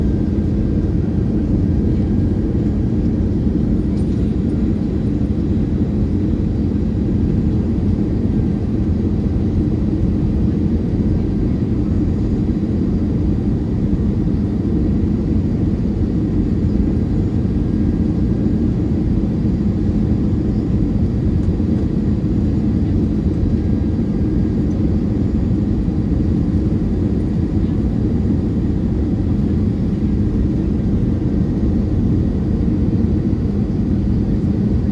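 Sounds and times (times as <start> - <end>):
airplane cabin engine roar: 0.0 - 34.9.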